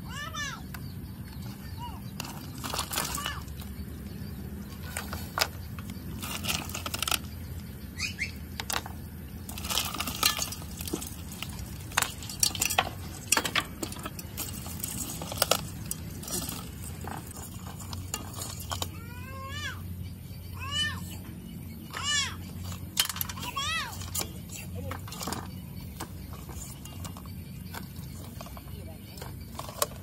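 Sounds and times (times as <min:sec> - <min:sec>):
snail shells clinking in metal pot: 0:02.1 - 0:19.2, 0:22.4 - 0:30.0.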